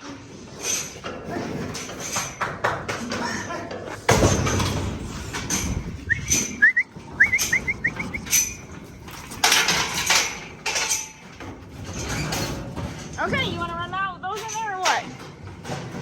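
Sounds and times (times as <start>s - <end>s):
knocks and rattles: 0.0s - 16.0s.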